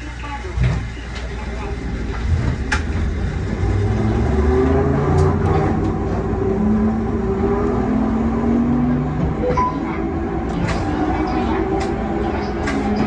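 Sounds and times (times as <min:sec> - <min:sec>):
tram traction motors droning: 0:00.0 - 0:13.0
wheels rumbling on rails: 0:00.5 - 0:13.0.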